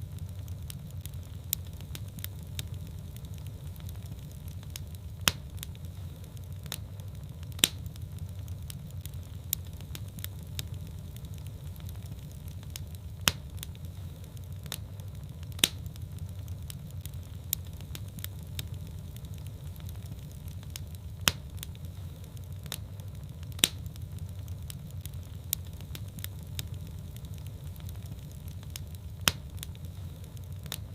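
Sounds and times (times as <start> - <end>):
low rumble of flames: 0.0 - 30.9
wood fire crackling and popping: 0.0 - 30.9.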